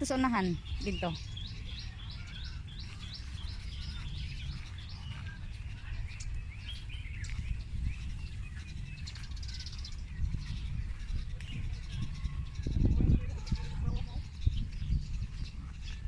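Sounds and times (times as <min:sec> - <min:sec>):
birds chirping and calling: 0:00.0 - 0:16.0
steady low rumble: 0:00.0 - 0:16.0.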